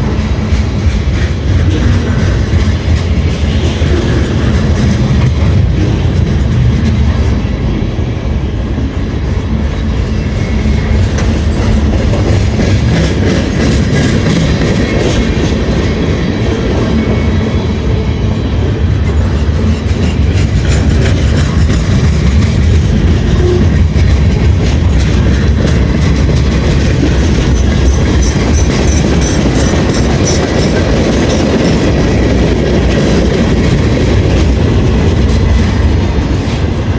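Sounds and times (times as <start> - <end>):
freight train rumbling: 0.0 - 36.9.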